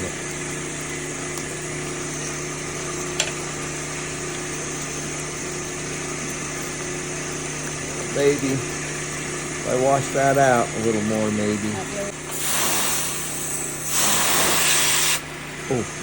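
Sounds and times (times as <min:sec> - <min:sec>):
small electric motor humming: 0:00.0 - 0:15.9.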